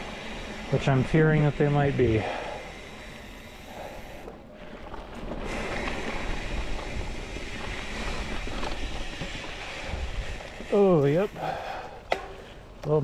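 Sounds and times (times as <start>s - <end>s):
bike tyres rolling through mud: 0.0s - 13.0s.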